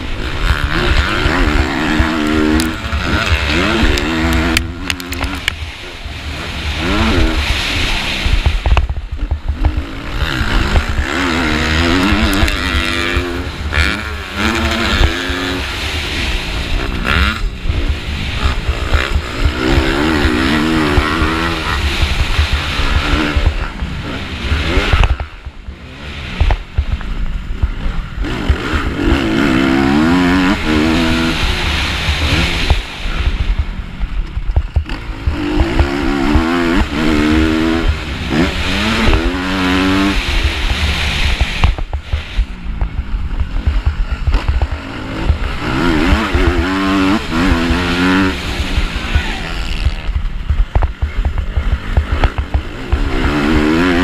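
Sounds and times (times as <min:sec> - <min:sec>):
motorbike engine revving: 0:00.0 - 0:54.0
wind rumble on microphone: 0:00.0 - 0:54.0.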